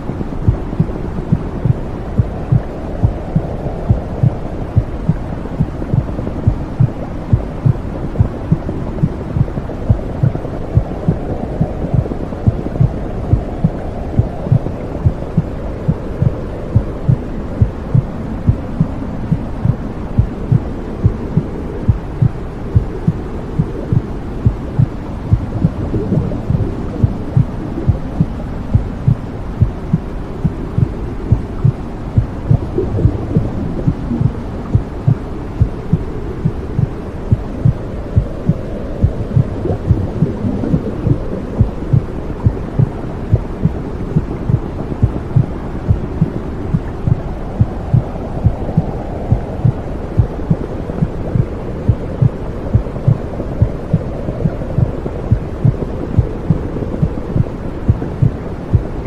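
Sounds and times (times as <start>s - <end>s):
low whooshing rumble: 0.0s - 59.0s
steady heartbeat: 0.0s - 59.0s.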